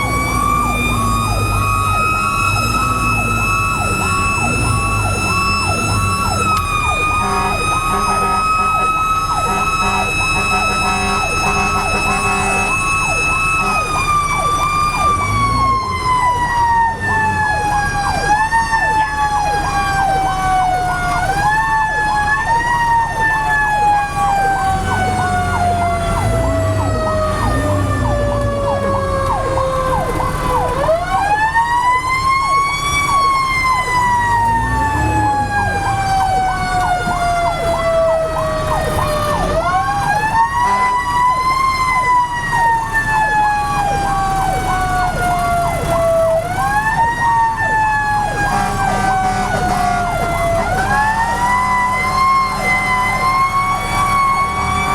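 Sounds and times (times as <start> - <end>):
electronic siren yelping: 0.0 - 54.9
low engine rumble: 0.0 - 54.9.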